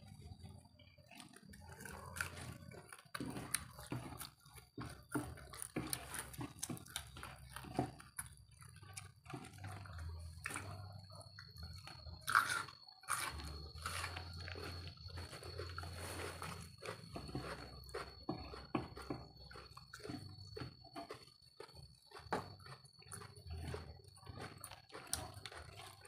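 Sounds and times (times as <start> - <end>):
food crunching while chewing: 0.0 - 26.0.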